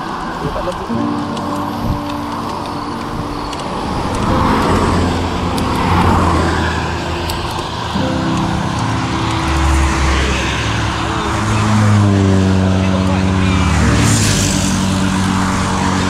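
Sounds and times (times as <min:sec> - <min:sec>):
steady engine hum: 0:00.0 - 0:16.0
vehicle passing on road: 0:00.0 - 0:16.0.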